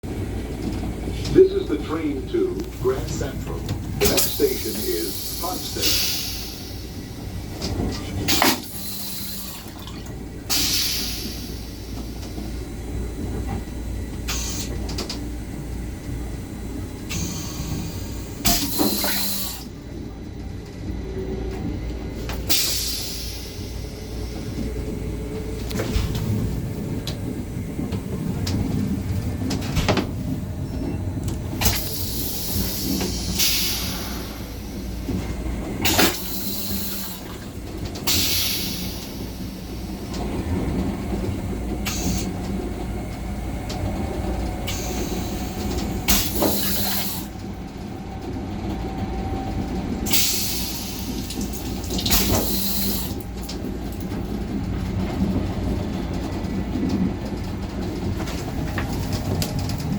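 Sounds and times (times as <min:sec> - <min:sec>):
railcar low rumble: 0:00.0 - 0:59.9.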